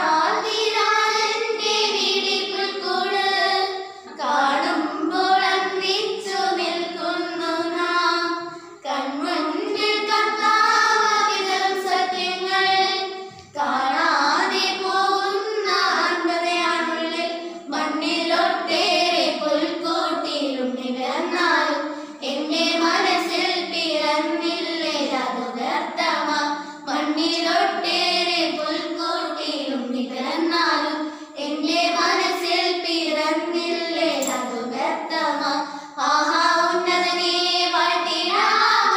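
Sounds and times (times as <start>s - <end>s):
girls singing unaccompanied: 0.0s - 38.9s.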